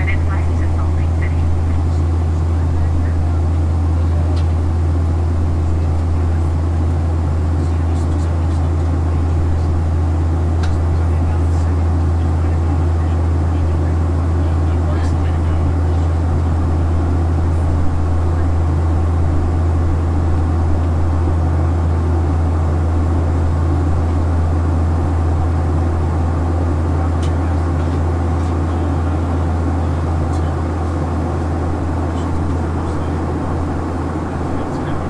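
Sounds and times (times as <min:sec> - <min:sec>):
airplane cabin engine hum: 0:00.0 - 0:35.0.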